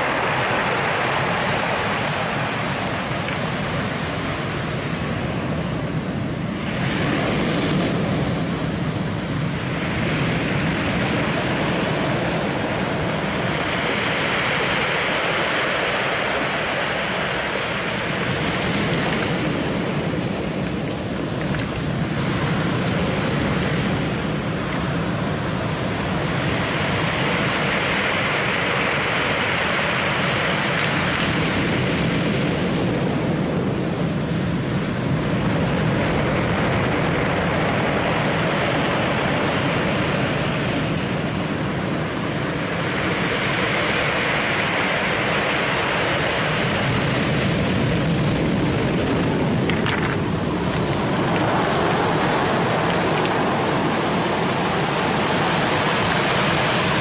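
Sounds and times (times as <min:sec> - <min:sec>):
sea surf on cobble beach: 0:00.0 - 0:57.0.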